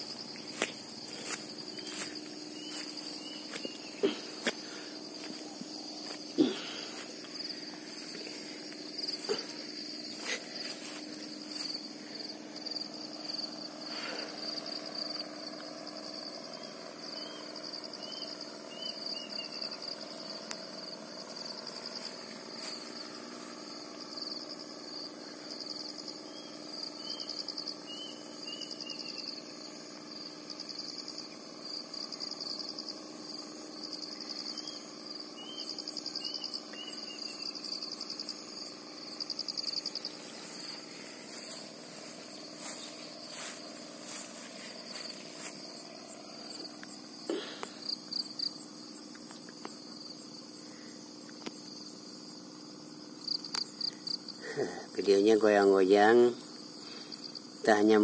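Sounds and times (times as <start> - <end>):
insect trill: 0.0 - 58.0
pulsing insect chirp: 0.0 - 58.0.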